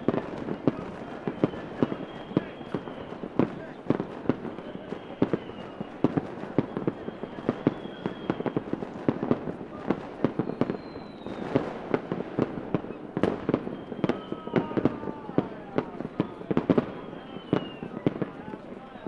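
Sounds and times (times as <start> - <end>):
firework whistles: 0.0 - 18.8
fireworks bangs: 0.0 - 19.0.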